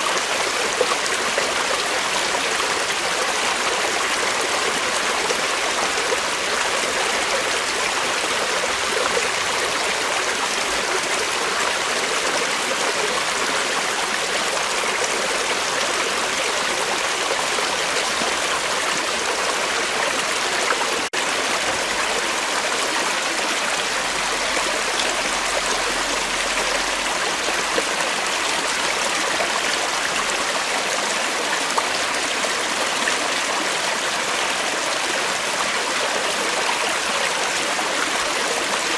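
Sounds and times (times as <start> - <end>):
creek water flowing: 0.0 - 38.9.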